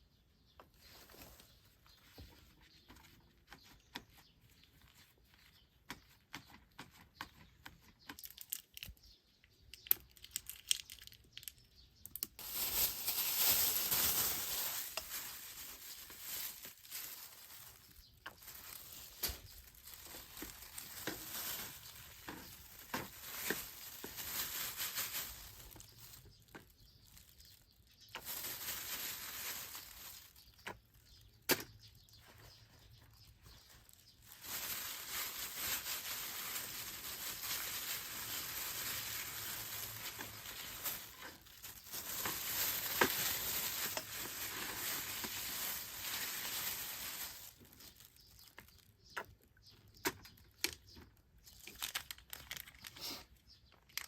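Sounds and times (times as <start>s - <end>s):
rustling and crinkling packaging: 0.6s - 54.0s.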